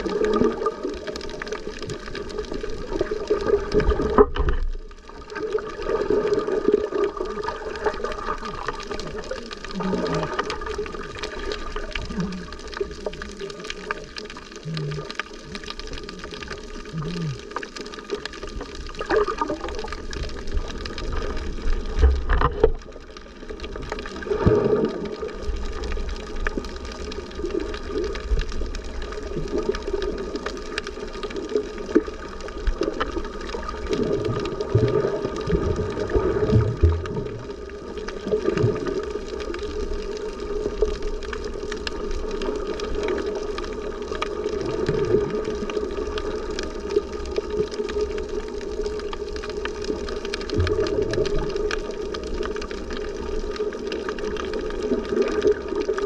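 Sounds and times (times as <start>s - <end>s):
muffled water sloshing and gurgling: 0.0s - 56.0s.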